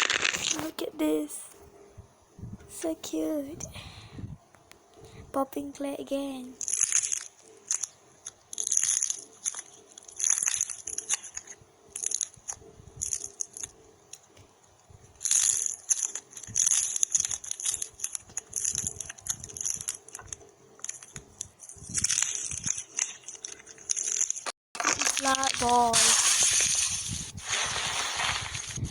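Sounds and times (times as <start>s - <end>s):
popping clay crackling: 0.0s - 1.9s, 6.2s - 28.9s.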